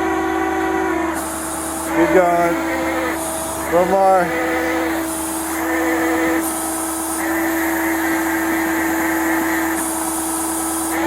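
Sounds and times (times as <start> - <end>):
hydraulic hiss: 0.0 - 11.0
hydraulic lift humming: 0.0 - 11.0.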